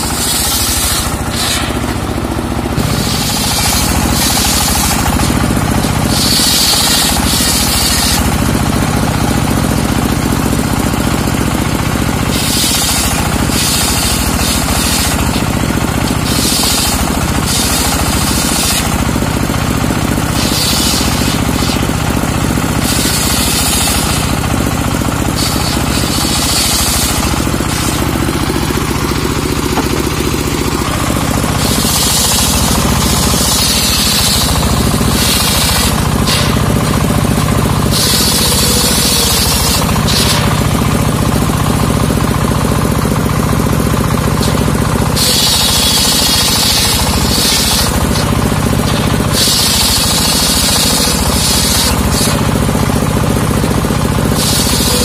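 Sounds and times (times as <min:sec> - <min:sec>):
motor running steadily: 0:00.0 - 0:55.0
saw blade cutting logs: 0:00.0 - 0:55.0.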